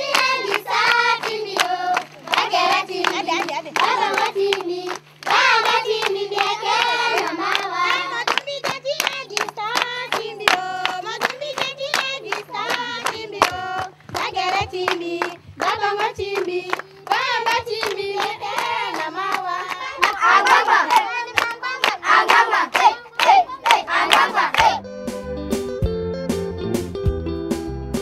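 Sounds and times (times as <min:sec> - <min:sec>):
children and women singing: 0:00.0 - 0:24.8
rhythmic hand-clapping: 0:00.0 - 0:25.2.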